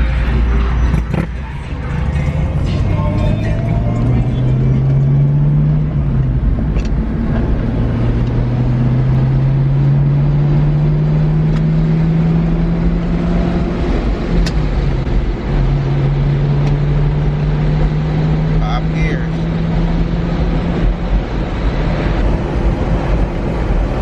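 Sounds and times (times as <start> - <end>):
car engine droning while driving: 0.0 - 24.0.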